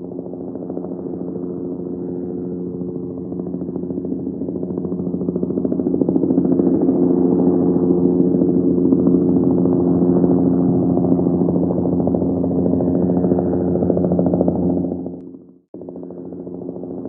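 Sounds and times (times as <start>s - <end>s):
cartoon helicopter droning: 0.0s - 17.0s.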